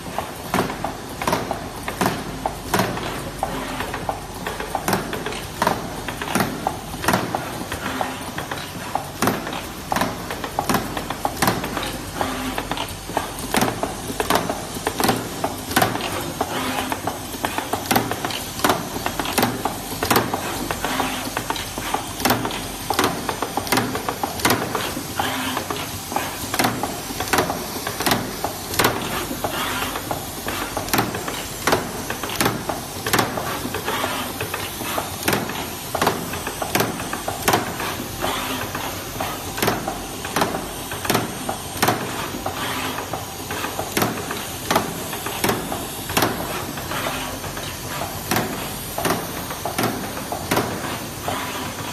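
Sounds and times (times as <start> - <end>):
machine mechanisms clacking: 0.0 - 51.9.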